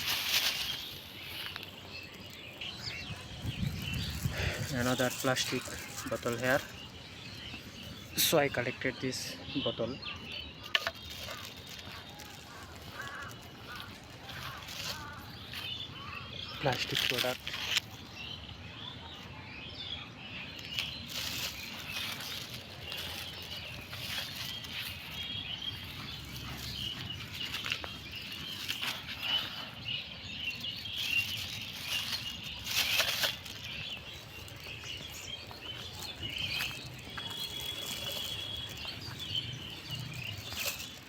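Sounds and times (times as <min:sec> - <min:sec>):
litter rustling and crackling: 0:00.0 - 0:02.7, 0:03.8 - 0:07.9, 0:10.3 - 0:18.1, 0:20.5 - 0:41.0
small birds chirping: 0:00.0 - 0:41.0.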